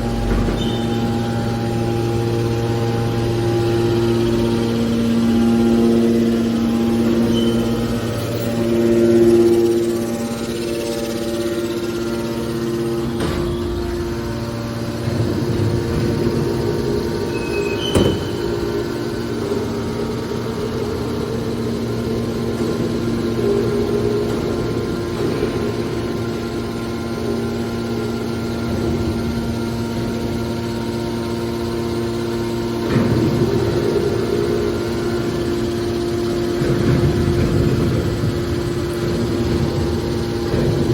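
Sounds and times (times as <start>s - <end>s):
baler motor humming: 0.0s - 40.9s.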